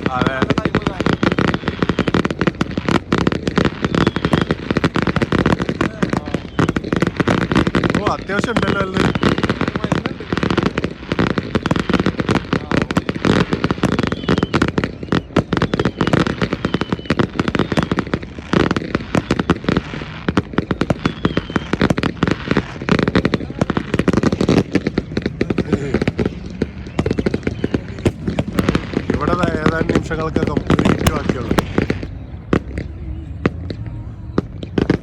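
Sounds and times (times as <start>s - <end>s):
fireworks and firecrackers popping: 0.0s - 35.0s.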